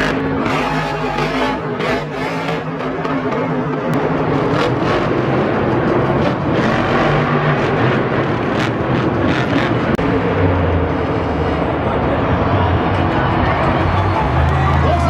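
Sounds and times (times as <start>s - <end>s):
loud truck engine running: 0.0s - 15.0s.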